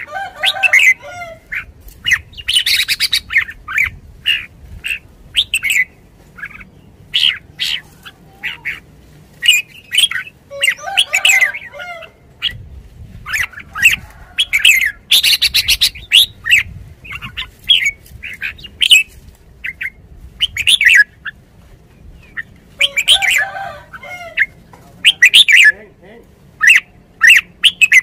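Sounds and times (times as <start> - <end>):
bird chirping and singing: 0.0 - 12.6, 13.2 - 21.4, 22.0 - 25.8.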